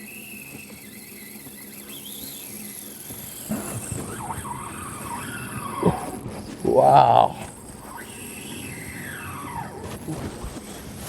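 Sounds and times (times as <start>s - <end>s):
fishing reel drag buzzing: 0.0s - 11.0s.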